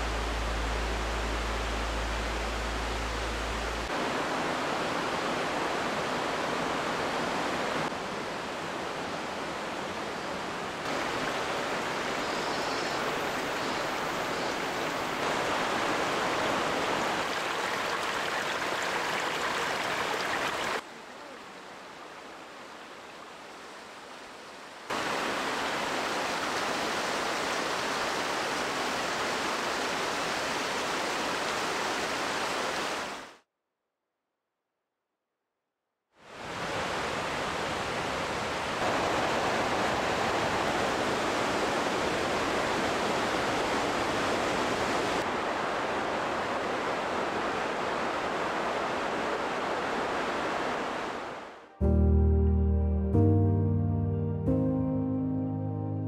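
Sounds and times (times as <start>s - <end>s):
water rushing over rocks: 0.0s - 23.4s, 24.9s - 33.4s, 36.3s - 51.6s.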